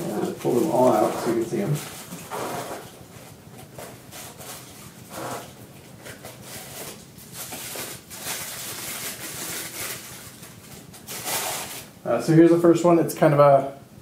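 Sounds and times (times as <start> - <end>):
packaging rubbing and scraping: 0.0 - 11.9.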